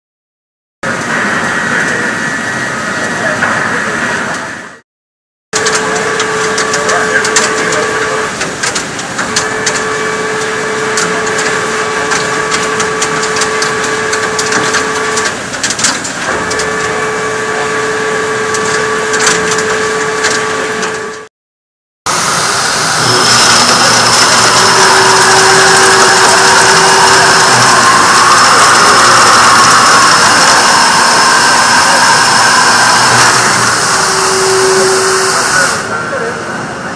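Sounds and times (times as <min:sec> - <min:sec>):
face mill cutting metal whine: 0:00.8 - 0:04.8, 0:05.6 - 0:21.3, 0:22.1 - 0:36.9
machine drilling hum: 0:05.6 - 0:21.3, 0:22.1 - 0:36.2.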